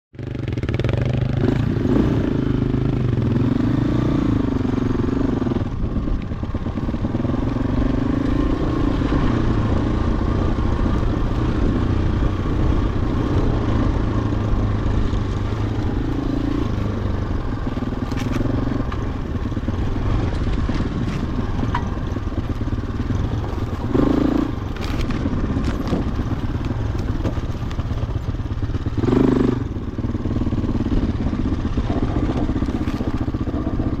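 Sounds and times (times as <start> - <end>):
motorcycle engine revving: 0.2 - 34.0.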